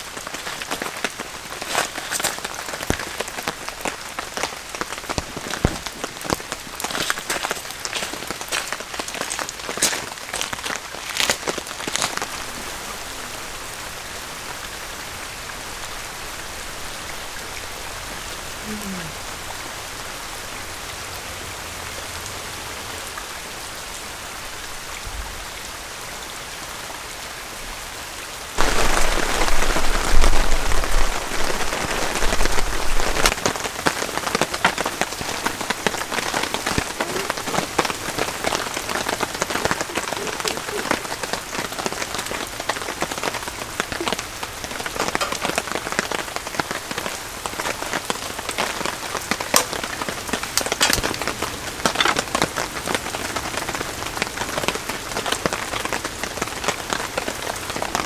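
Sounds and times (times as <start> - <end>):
rain pattering: 0.0 - 58.0
raindrops ticking on a surface: 0.0 - 58.0.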